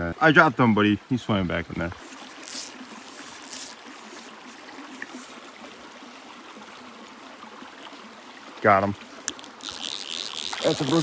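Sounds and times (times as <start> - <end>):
stream babbling over stones: 0.1 - 11.0.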